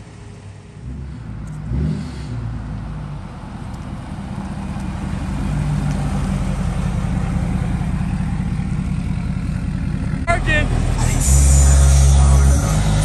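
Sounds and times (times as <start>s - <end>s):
diesel truck engine passing: 0.0s - 13.0s.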